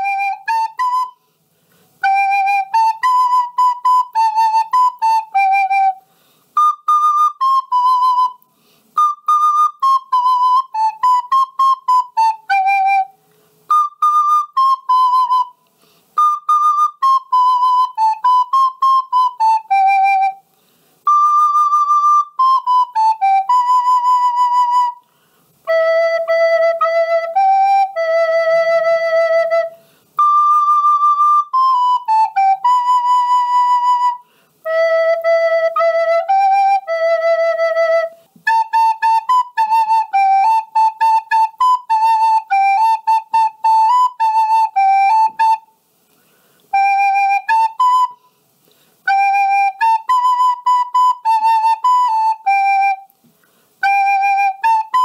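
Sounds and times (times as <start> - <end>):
recorder playing a melody: 0.0 - 1.2, 2.0 - 6.0, 6.6 - 15.6, 16.2 - 20.4, 21.0 - 45.7, 46.7 - 48.3, 49.0 - 53.2, 53.8 - 55.0.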